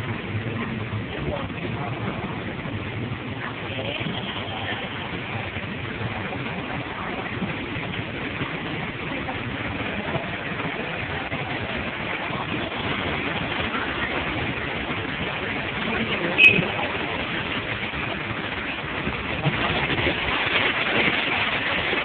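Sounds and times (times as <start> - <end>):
bus engine running: 0.0 - 22.0
traffic noise: 0.0 - 22.0
wheels splashing water: 0.0 - 22.0.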